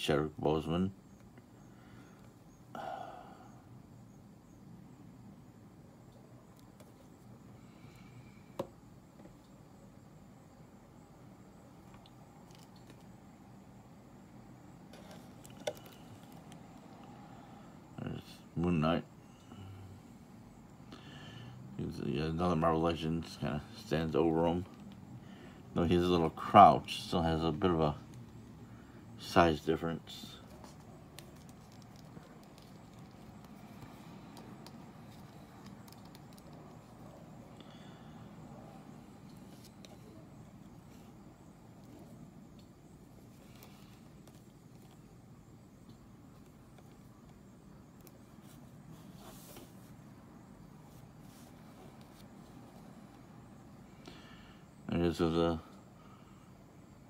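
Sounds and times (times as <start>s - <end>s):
room hum: 0.0s - 57.0s.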